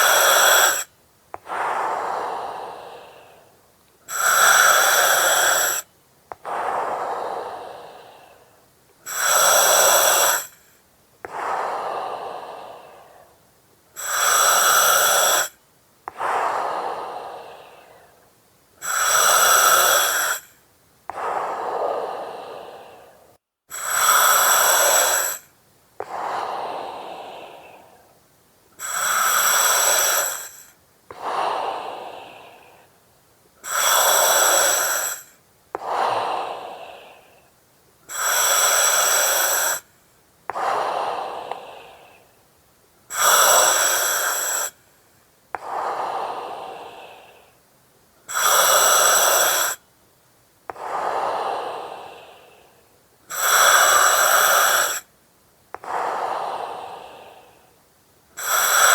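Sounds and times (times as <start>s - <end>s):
breathing through oxygen mask: 0.0s - 13.4s, 14.0s - 18.2s, 18.8s - 28.1s, 28.8s - 33.0s, 33.6s - 37.5s, 38.1s - 39.9s, 40.5s - 42.3s, 43.1s - 44.8s, 45.6s - 47.6s, 48.3s - 49.8s, 50.7s - 55.1s, 55.8s - 57.7s, 58.4s - 58.9s.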